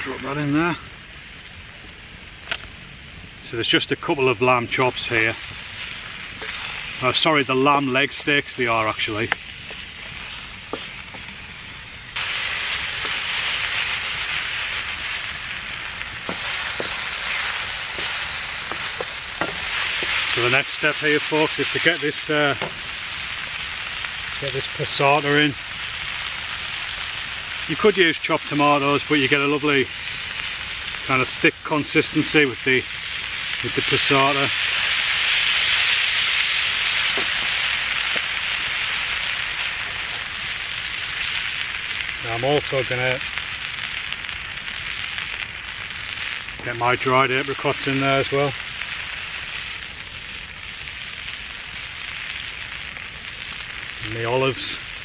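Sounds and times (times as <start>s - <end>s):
meat and onions sizzling in a pan: 0.0s - 55.0s.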